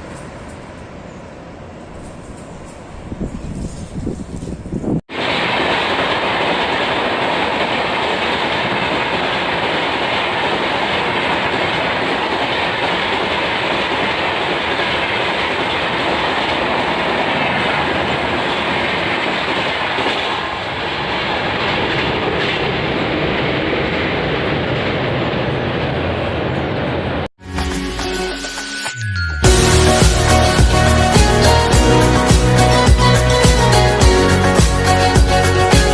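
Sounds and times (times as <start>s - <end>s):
train passing at speed: 0.0s - 27.3s, 29.4s - 35.9s.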